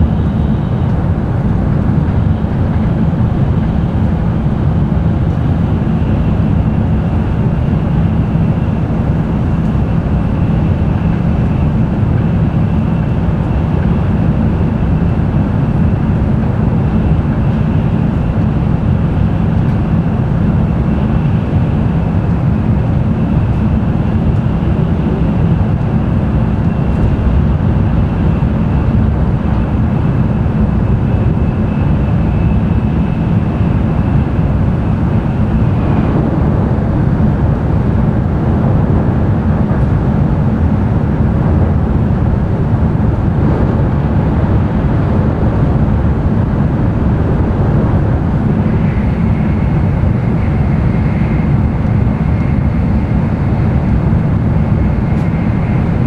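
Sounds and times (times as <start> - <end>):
train cabin rumble: 0.0 - 56.0.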